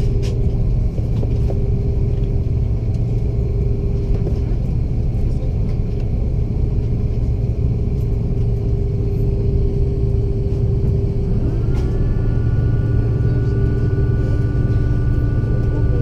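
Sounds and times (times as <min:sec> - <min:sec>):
aircraft cabin rumble and hum: 0:00.0 - 0:16.0.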